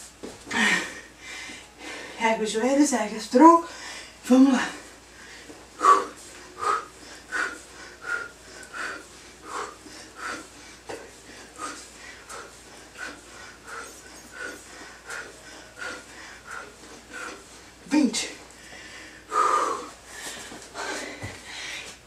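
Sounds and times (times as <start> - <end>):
woman breathing hard: 0.5 - 2.2, 3.6 - 17.8, 18.4 - 22.0.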